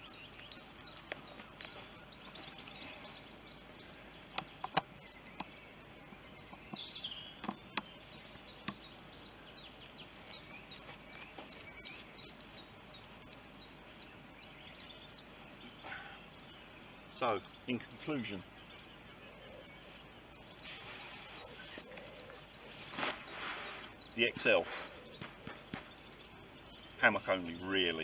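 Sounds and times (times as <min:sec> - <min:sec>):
birds chirping and singing: 0:00.0 - 0:28.0
faint steady outdoor hiss: 0:00.0 - 0:28.0.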